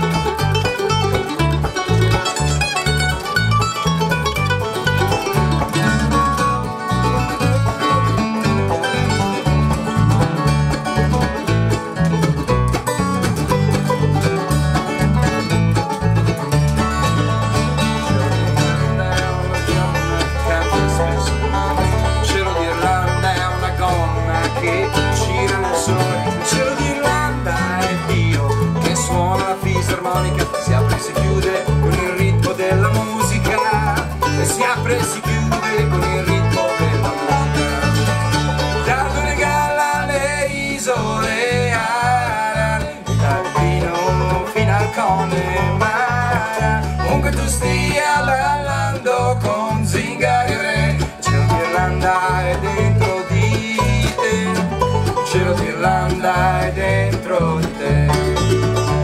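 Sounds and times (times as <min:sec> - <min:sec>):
acoustic guitar: 0:00.0 - 0:59.0
banjo: 0:00.0 - 0:59.0
bass guitar plucking: 0:00.0 - 0:59.0
mandolin: 0:00.0 - 0:59.0.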